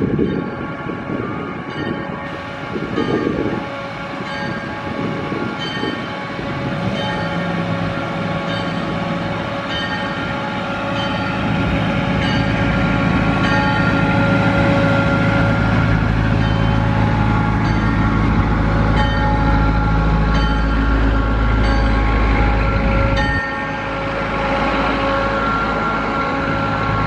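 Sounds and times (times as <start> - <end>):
diesel engine rumble: 0.0 - 27.0
locomotive bell ringing: 0.0 - 27.0.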